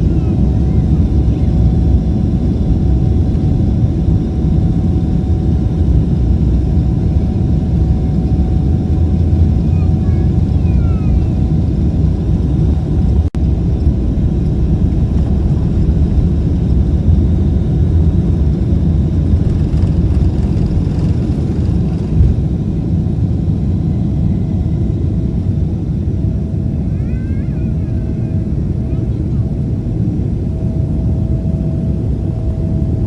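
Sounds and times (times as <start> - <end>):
jet airliner low rumble: 0.0 - 33.0.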